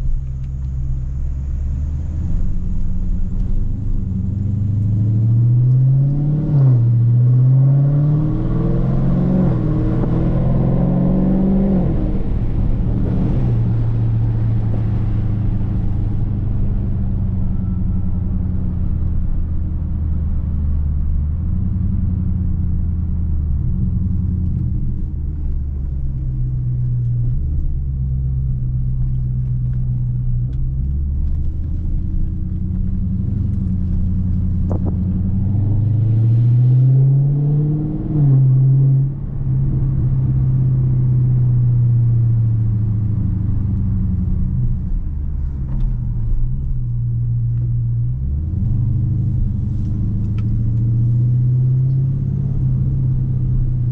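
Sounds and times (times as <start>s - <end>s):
car engine with loud exhaust: 0.0s - 53.9s.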